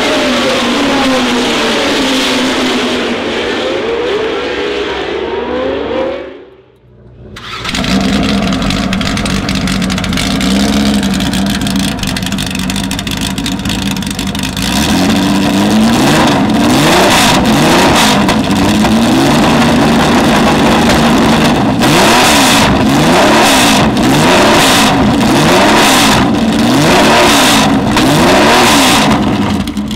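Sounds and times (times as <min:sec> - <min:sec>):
racing car engine revving: 0:00.0 - 0:29.9.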